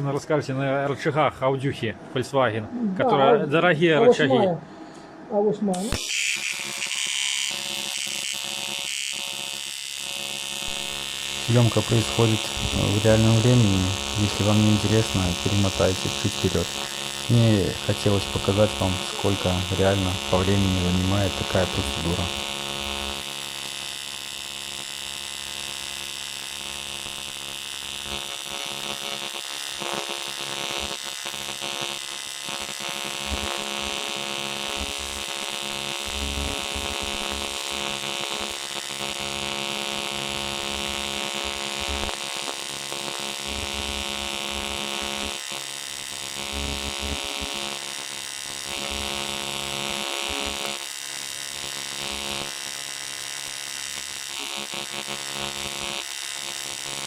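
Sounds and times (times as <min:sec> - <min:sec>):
welding arc buzzing and hissing: 0:05.8 - 0:57.0.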